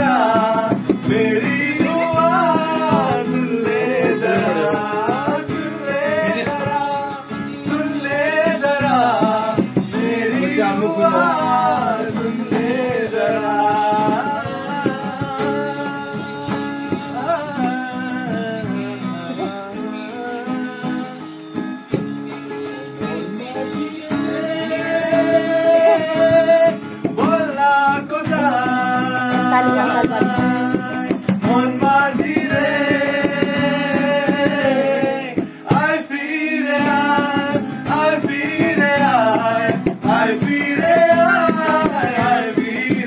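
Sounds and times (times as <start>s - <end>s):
acoustic guitar strummed: 0.0s - 43.0s
men singing: 0.0s - 43.0s.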